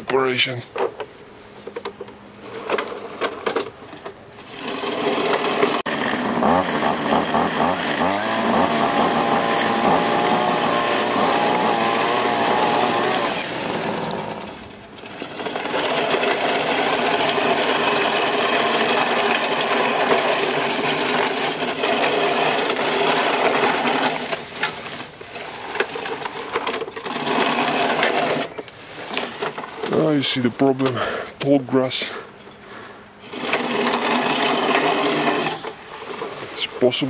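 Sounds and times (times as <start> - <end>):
reel lawn mower clattering: 0.1 - 32.2, 33.2 - 37.0.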